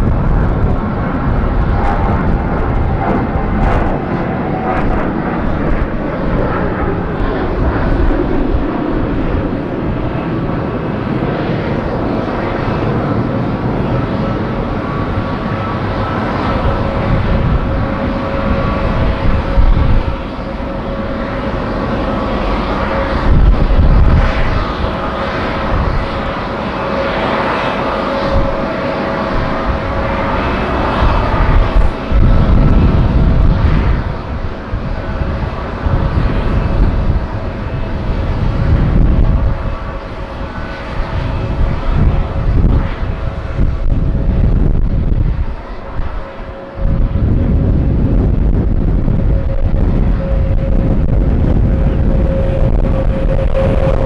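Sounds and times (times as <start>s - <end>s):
jet engines whining: 0.0s - 54.0s
low rumble: 0.0s - 54.0s.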